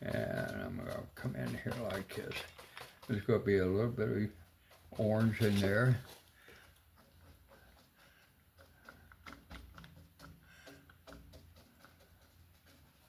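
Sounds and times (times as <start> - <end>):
paintbrush dabbing and scraping canvas: 0.0 - 13.0.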